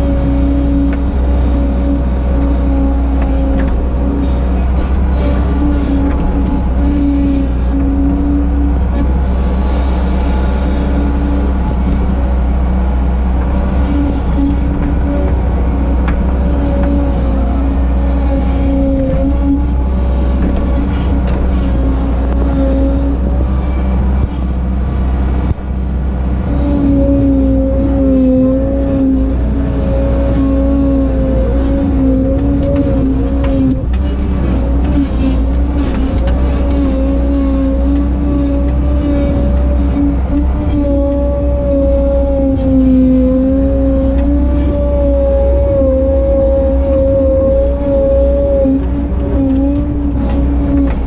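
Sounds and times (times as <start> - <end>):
diesel engine running: 0.0 - 51.0
high whine: 0.0 - 51.0.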